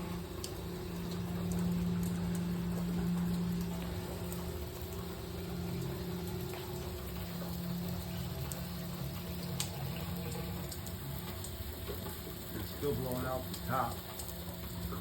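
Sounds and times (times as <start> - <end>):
hot water spraying and hissing: 0.0 - 15.0
steady low hum: 0.0 - 15.0.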